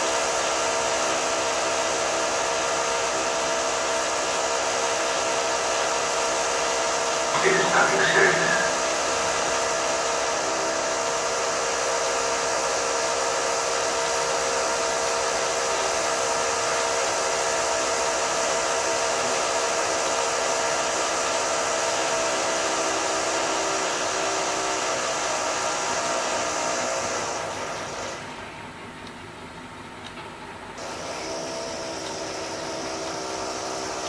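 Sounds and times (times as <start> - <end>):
high-pitched drill whine: 0.0 - 28.4, 30.8 - 34.0.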